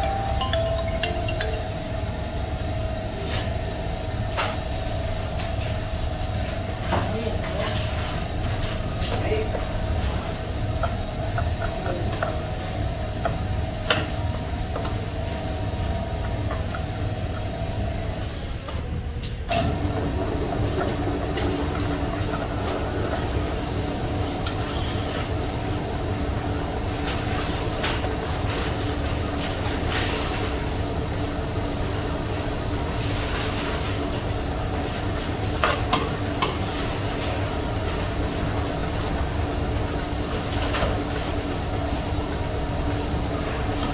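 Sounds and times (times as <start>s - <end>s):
machinery hum: 0.0s - 43.9s.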